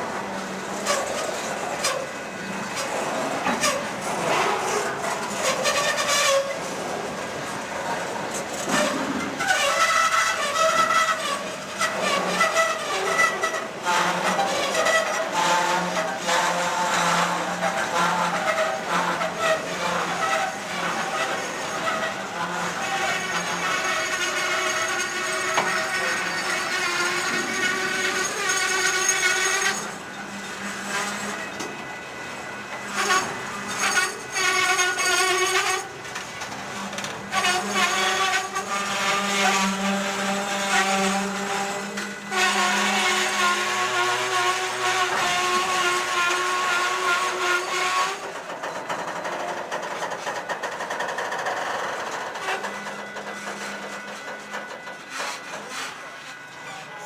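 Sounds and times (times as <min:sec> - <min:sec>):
train wheels squealing on rail: 0:00.1 - 0:57.0.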